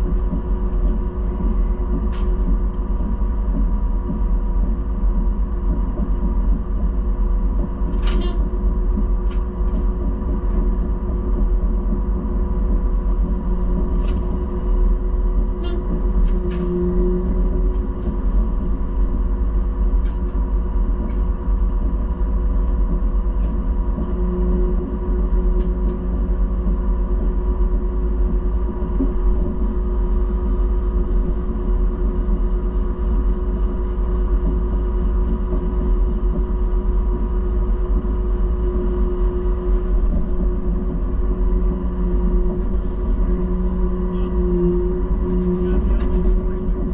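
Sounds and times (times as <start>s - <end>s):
combine harvester drone: 0.0s - 46.9s.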